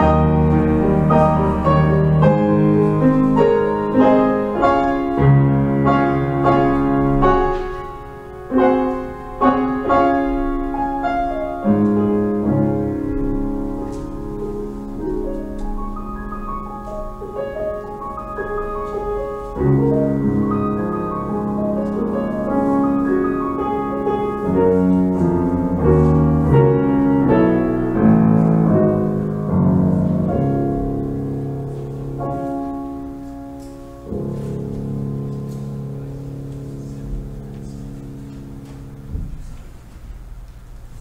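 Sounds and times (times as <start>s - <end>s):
solo piano piece: 0.0s - 41.0s.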